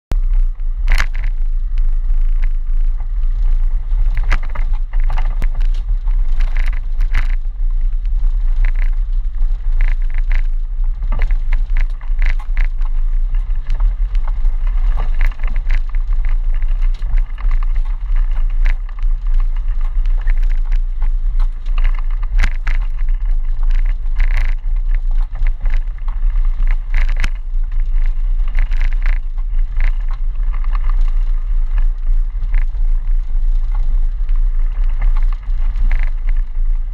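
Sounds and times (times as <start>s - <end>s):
low engine drone: 0.1s - 36.9s.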